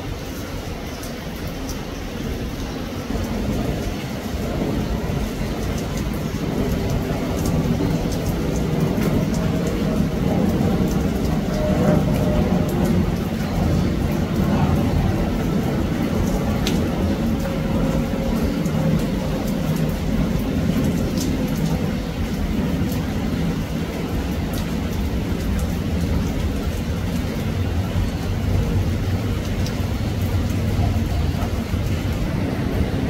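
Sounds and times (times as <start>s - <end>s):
steady rainfall: 0.0s - 33.0s
sharp drip clicks: 5.2s - 32.2s.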